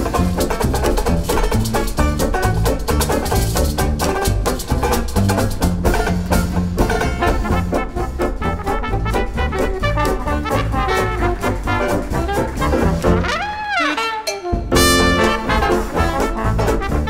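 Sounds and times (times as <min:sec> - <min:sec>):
trumpet: 0:00.0 - 0:05.1, 0:05.9 - 0:17.0
jazz band playing swing: 0:00.0 - 0:17.0
trombone: 0:00.0 - 0:17.0.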